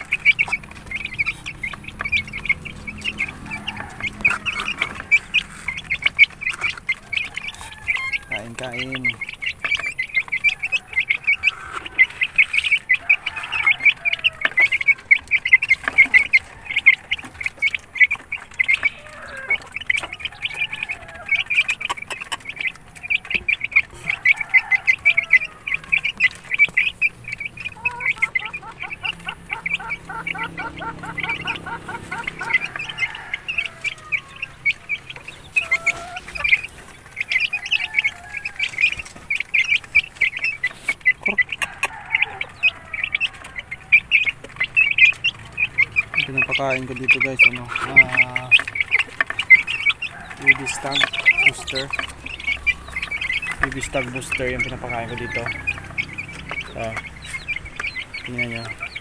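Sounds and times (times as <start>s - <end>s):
chicks peeping: 0.0s - 59.0s
lower repeated bird notes: 0.0s - 59.0s.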